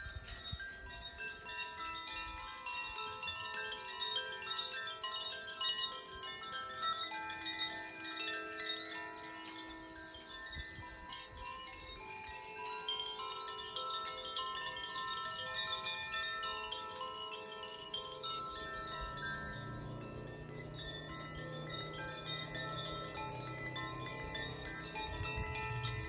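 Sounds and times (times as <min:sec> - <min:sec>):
wind chimes ringing: 0:00.0 - 0:26.0.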